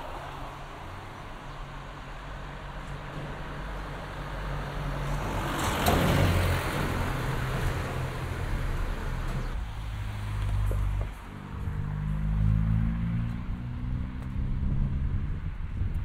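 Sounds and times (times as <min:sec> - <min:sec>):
passing vehicle: 0:00.0 - 0:16.0.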